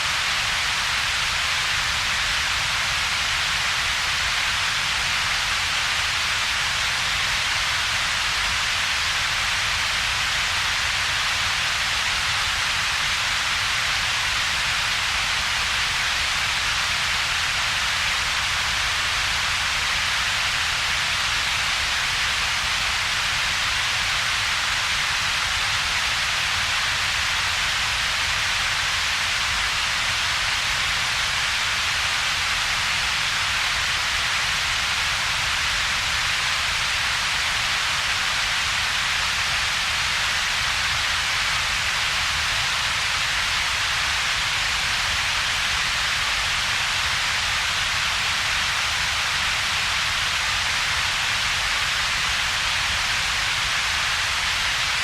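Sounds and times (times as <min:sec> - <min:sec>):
synthetic noise hiss: 0:00.0 - 0:55.0.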